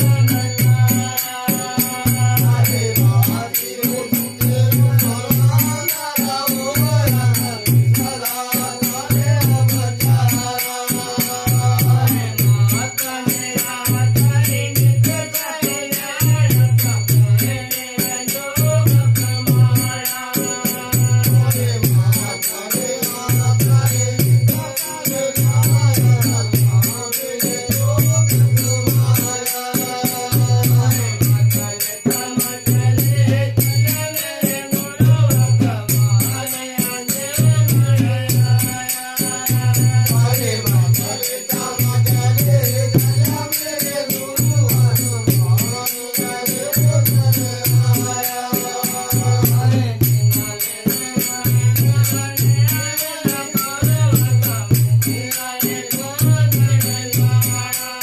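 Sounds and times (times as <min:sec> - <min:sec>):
men singing a folk song: 0:00.0 - 0:58.0.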